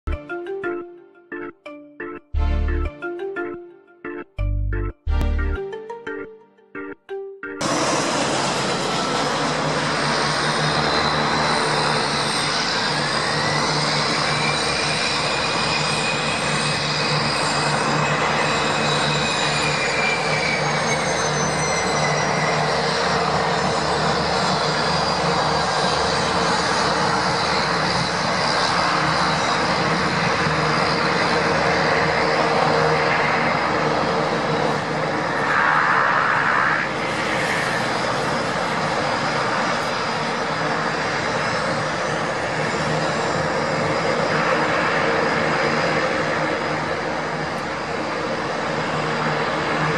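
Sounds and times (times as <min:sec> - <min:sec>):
aircraft engines droning: 0:00.1 - 0:49.9
high engine whine: 0:06.8 - 0:49.9.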